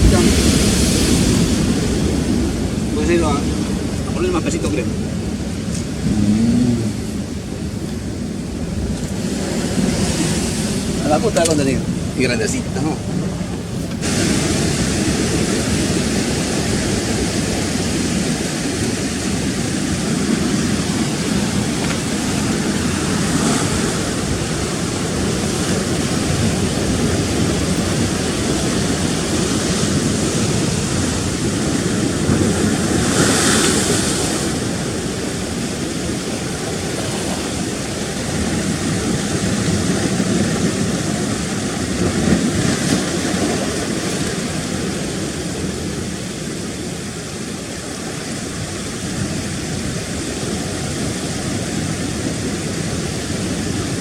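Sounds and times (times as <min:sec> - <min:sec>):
sea surf breaking: 0:00.0 - 0:54.0.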